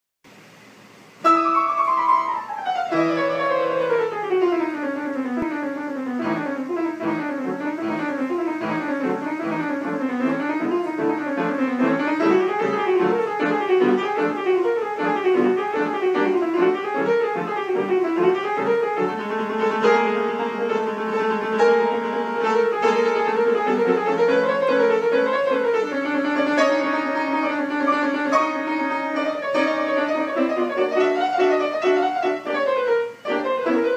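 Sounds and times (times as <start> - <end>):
piano music: 1.2 - 33.9.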